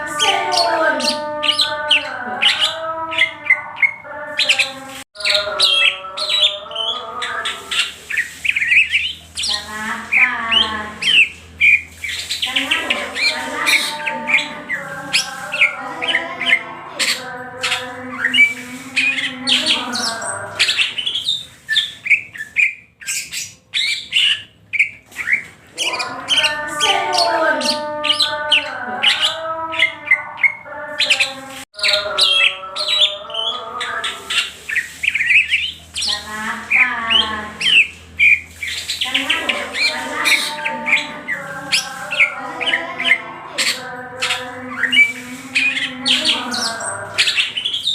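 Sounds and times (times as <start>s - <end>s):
bird singing chirps and whistles: 0.0s - 47.9s.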